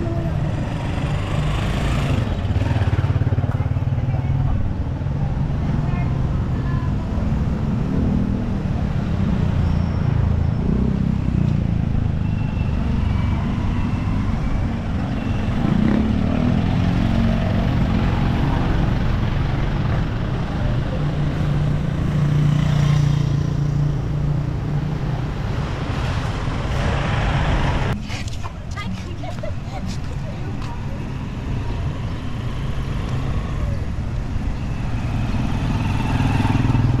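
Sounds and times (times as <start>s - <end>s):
traffic passing: 0.0s - 37.0s.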